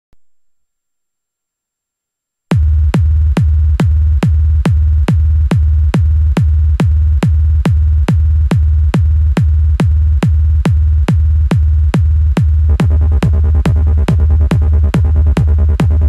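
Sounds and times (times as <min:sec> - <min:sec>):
electronic kick drum beat: 0:02.5 - 0:16.0.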